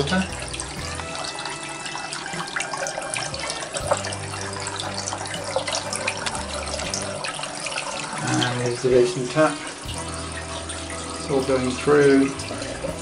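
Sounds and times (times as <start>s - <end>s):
tap water running into basin: 0.0s - 13.0s
water draining away: 0.0s - 13.0s.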